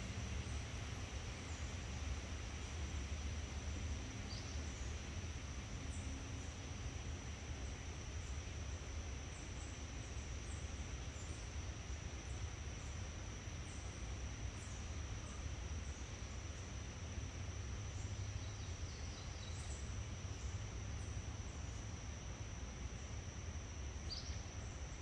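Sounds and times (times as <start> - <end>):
insect chorus: 0.0 - 25.0
low steady rumble: 0.0 - 25.0.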